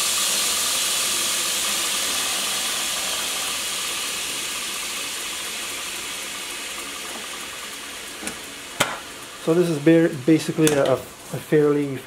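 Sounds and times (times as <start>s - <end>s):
belt grinder motor running: 0.0s - 10.7s.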